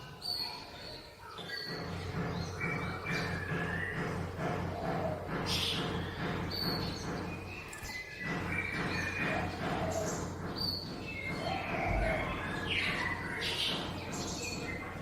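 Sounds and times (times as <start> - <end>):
songbird chirping and trilling: 0.0 - 15.0.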